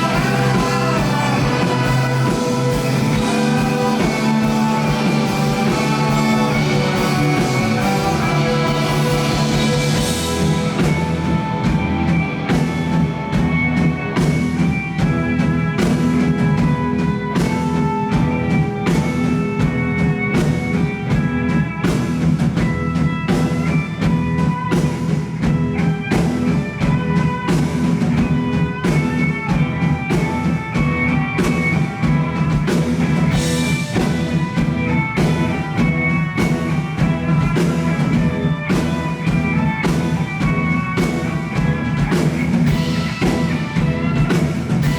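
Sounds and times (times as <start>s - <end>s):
drum kit steady beat: 0.0s - 44.9s
electric guitars ringing: 0.0s - 44.9s.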